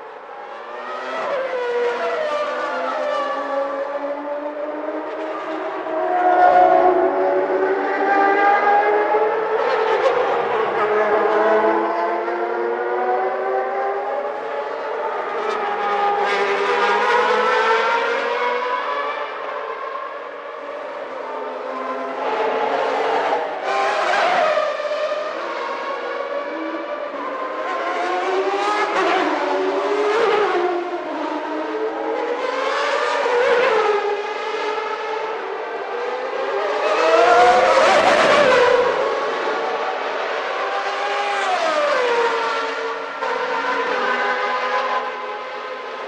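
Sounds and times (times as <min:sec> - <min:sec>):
race car engines at high revs: 0:00.3 - 0:46.0.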